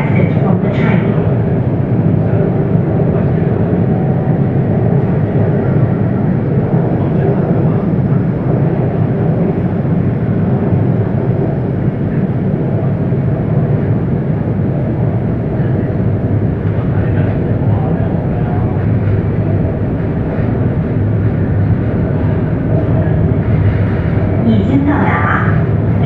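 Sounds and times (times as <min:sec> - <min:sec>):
metro train rumbling: 0:00.0 - 0:26.0.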